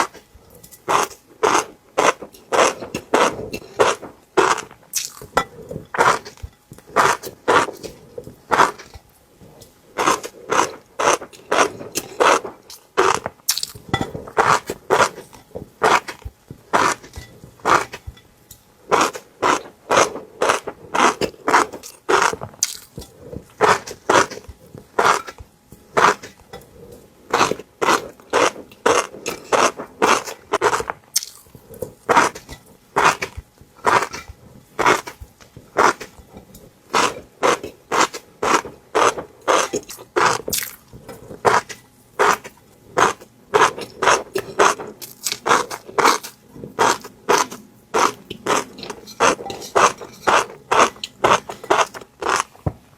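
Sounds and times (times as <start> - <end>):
wet chewing: 0.0 - 18.2, 18.9 - 52.6.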